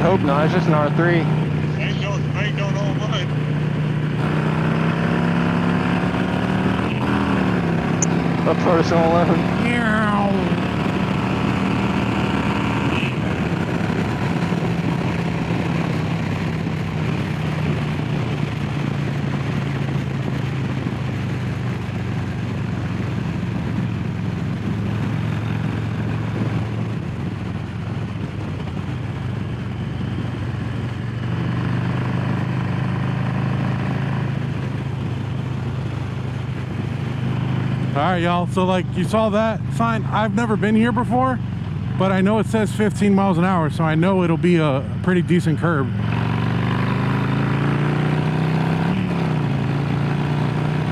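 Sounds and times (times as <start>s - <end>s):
motorcycle engine cruising: 0.0s - 50.9s
wind and road noise: 0.0s - 50.9s.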